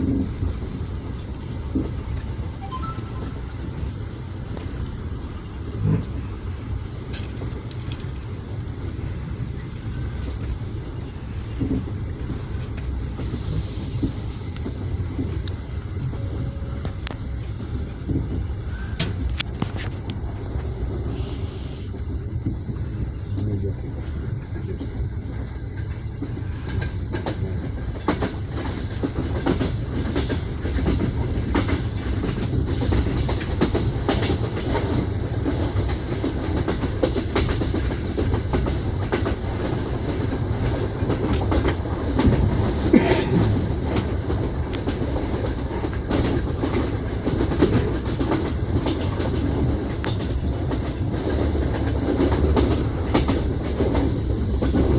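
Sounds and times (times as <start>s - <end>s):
low train rumble: 0.0s - 54.9s
train wheels clicking over rail joints: 4.1s - 54.9s.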